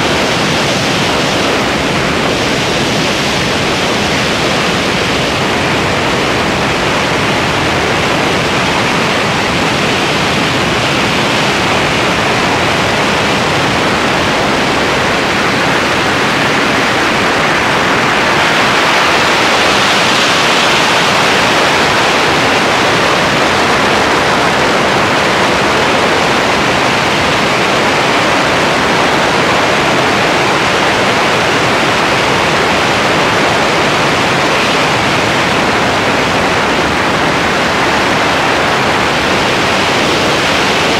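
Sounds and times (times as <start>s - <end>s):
wind rush buffeting microphone: 0.0s - 40.9s.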